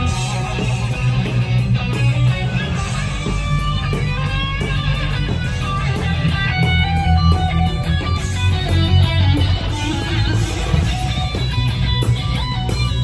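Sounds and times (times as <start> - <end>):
electric guitar lines: 0.0 - 13.0
live rock band playing: 0.0 - 13.0.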